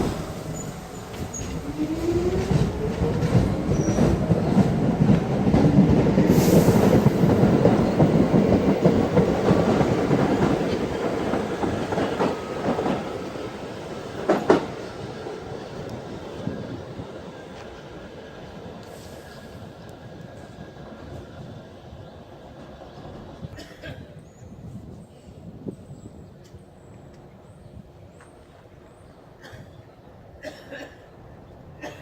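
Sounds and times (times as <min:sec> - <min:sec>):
wheels rumbling on rail: 0:00.0 - 0:29.8.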